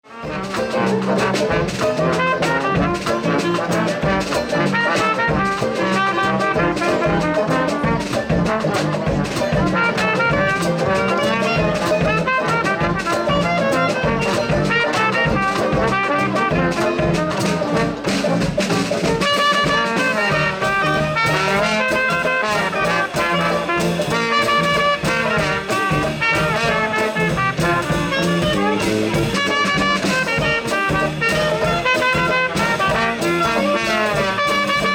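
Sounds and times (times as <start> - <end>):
swing big band music: 0.0 - 34.9
trumpets and trombones: 0.0 - 34.9.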